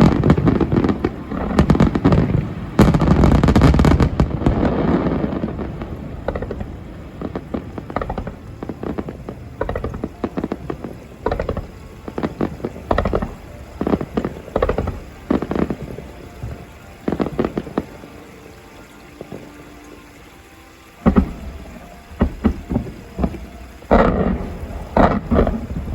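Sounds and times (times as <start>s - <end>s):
fireworks booming and crackling: 0.0s - 25.9s.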